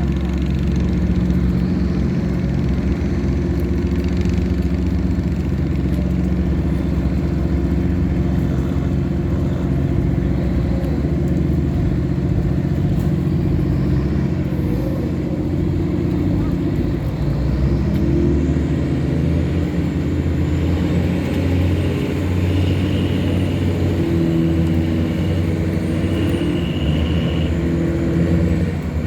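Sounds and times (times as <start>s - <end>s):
tugboat engine droning: 0.0s - 29.0s.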